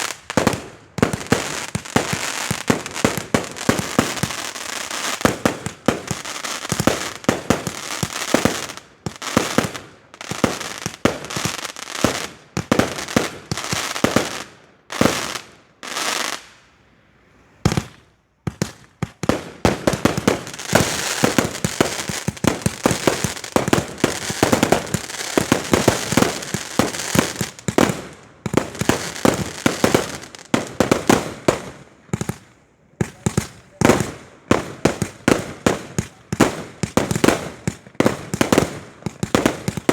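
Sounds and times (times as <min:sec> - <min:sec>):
fireworks bangs and crackling: 0:00.0 - 0:16.6, 0:17.6 - 0:39.9.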